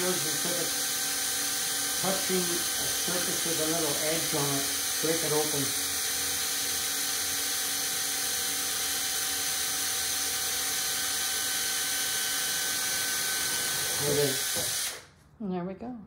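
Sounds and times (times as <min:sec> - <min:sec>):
drill grinding through china: 0:00.0 - 0:15.1.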